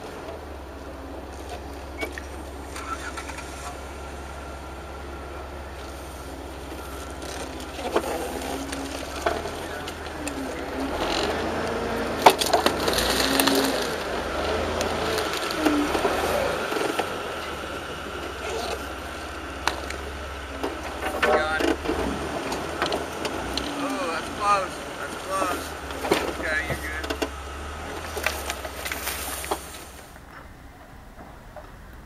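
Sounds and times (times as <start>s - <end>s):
engines rumbling at low revs: 0.0s - 32.0s
faint distant voices: 0.0s - 32.0s.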